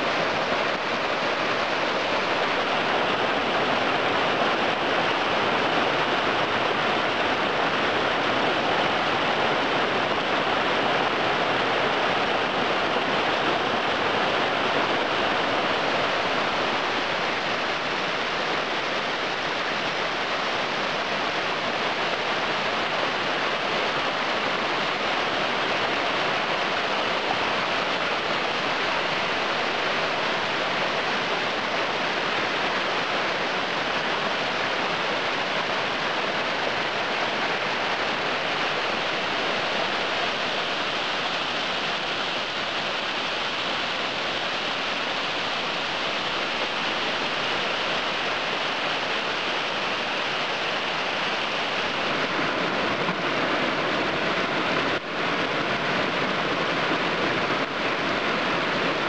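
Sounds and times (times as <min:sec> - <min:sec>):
waterfall rushing over rock: 0:00.0 - 0:59.0.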